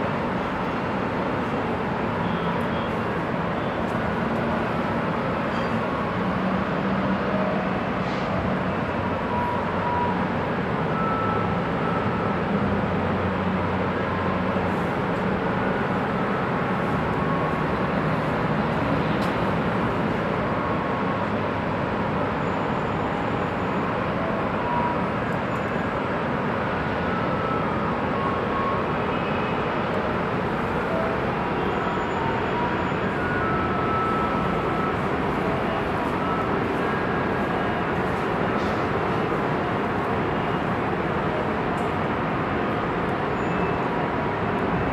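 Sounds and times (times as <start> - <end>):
faint vehicle whines: 0.0 - 44.9
heavy highway traffic: 0.0 - 44.9.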